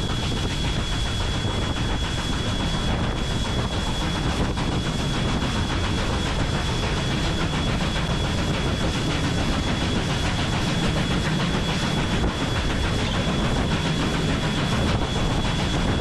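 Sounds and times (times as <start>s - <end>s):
steam locomotive rushing and rumbling: 0.0s - 16.0s.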